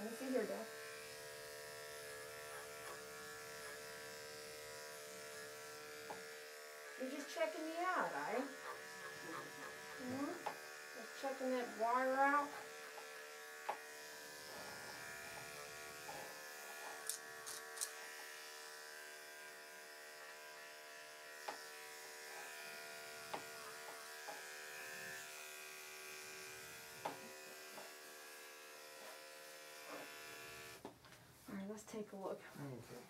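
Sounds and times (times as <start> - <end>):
electric clipper humming: 0.0 - 30.9.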